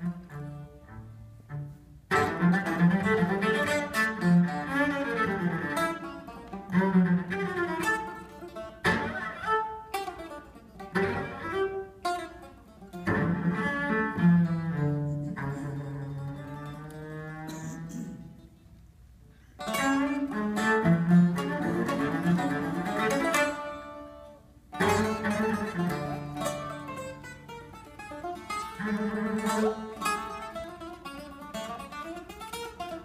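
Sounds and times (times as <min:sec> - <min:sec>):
bowed cello: 0:00.0 - 0:18.6, 0:19.6 - 0:33.0
bouzouki picked notes: 0:00.0 - 0:18.8, 0:19.6 - 0:33.0.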